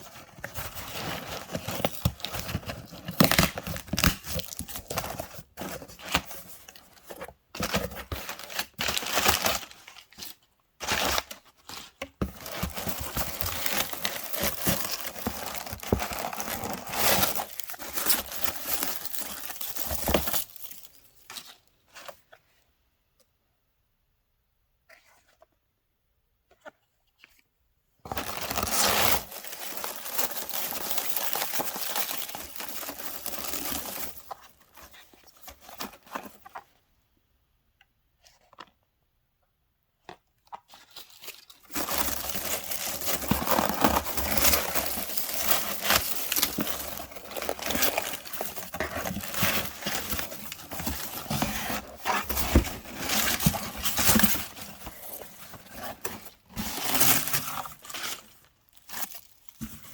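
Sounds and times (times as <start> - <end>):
packaging crinkling and tearing: 0.0 - 6.7, 7.6 - 21.7, 28.1 - 36.7, 40.7 - 59.9.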